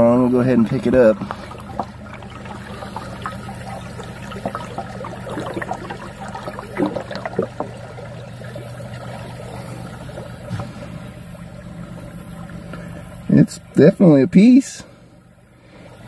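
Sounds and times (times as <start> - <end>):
creek water sloshing and trickling: 0.0 - 13.8.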